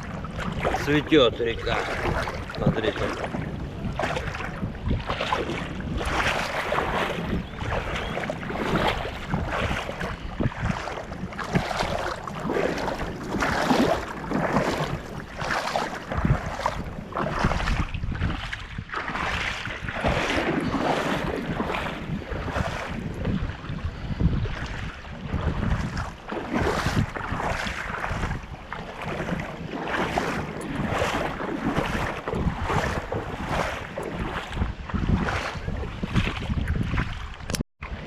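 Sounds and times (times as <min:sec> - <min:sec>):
river water splashing over stones: 0:00.0 - 0:23.6, 0:24.8 - 0:36.5.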